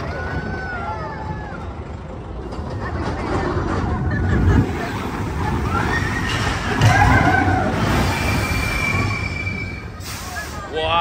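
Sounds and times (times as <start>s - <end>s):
roller coaster rumbling on track: 0.0s - 11.0s
roller coaster wheels squealing: 0.0s - 11.0s.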